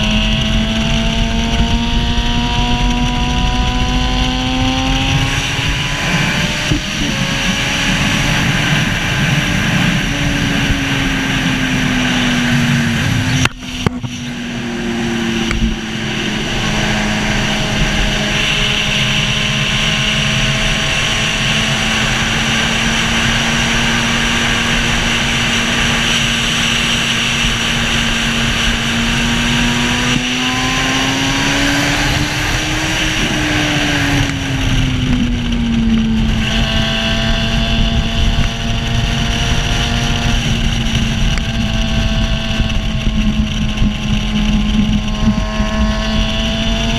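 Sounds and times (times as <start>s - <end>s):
racing engine running at speed: 0.0s - 46.9s
wind and road noise: 0.0s - 46.9s.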